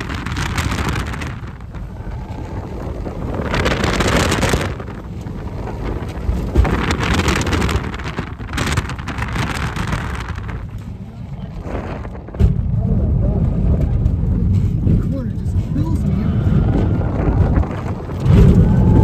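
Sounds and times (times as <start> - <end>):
road and tyre noise: 0.0 - 19.0
wind buffeting microphone: 0.0 - 19.0.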